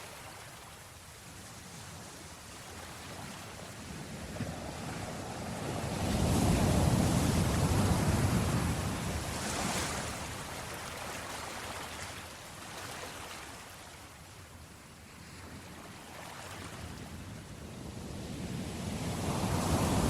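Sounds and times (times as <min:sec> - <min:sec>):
sea waves breaking on beach: 0:00.0 - 0:20.0.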